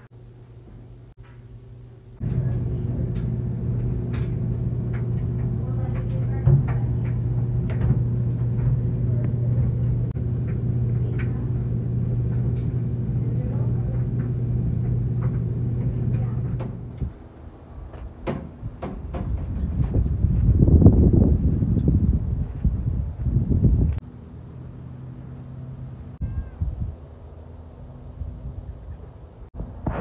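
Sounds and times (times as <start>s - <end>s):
low rumble: 0.0s - 17.9s, 18.6s - 30.0s.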